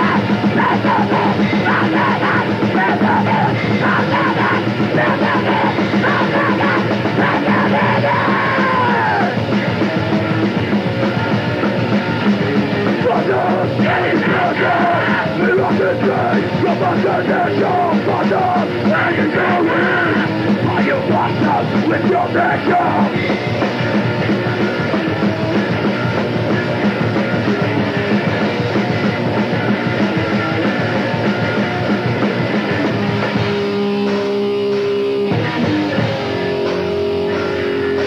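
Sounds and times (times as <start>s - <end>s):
distorted guitars: 0.0s - 38.0s
drums: 0.0s - 38.0s
yelled vocals: 0.0s - 38.0s.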